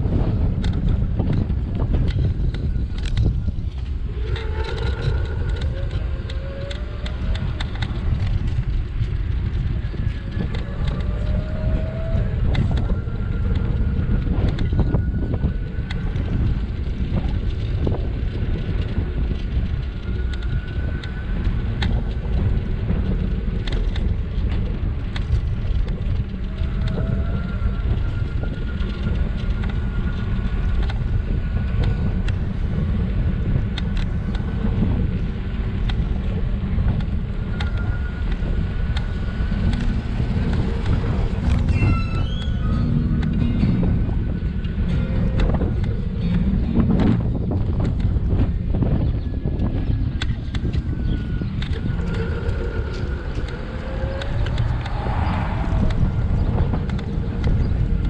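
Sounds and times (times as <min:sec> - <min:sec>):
scooter rolling on asphalt: 0:00.0 - 0:58.0
wind buffeting microphone: 0:00.0 - 0:58.0.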